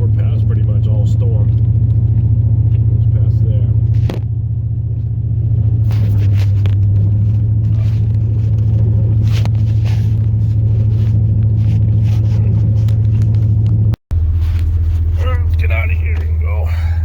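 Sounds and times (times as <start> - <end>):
road rumble: 0.0 - 17.0
truck engine droning inside cab: 0.0 - 17.0.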